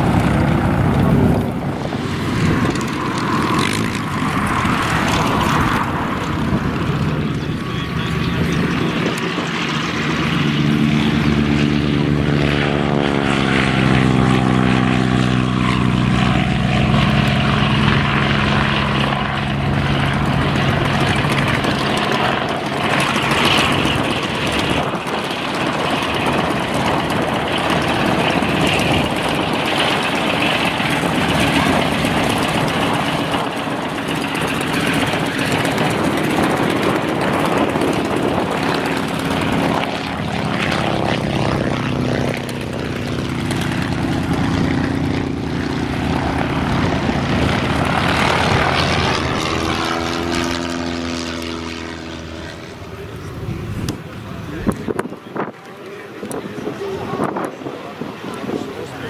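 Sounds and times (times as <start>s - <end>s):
propeller aircraft engine passing: 0.0s - 59.0s.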